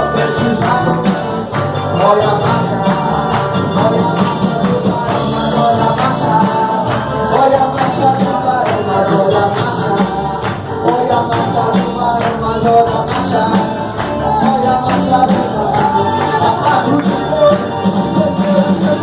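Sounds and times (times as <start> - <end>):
percussion beat: 0.0 - 19.0
voices singing: 0.0 - 19.0
worship band playing: 0.0 - 19.0.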